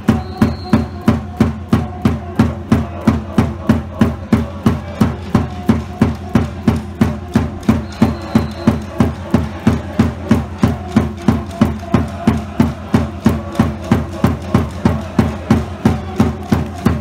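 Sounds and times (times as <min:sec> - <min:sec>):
drum beating steadily: 0:00.0 - 0:17.0.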